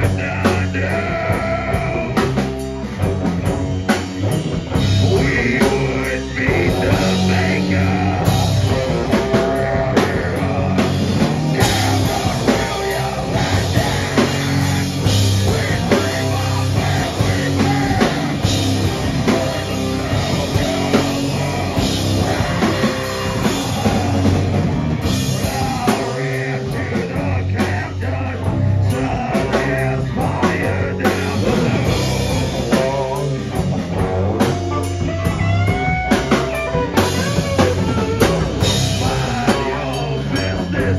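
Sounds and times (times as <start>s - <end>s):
person singing: 0.0s - 2.6s, 4.8s - 40.9s
live rock band: 0.0s - 40.9s.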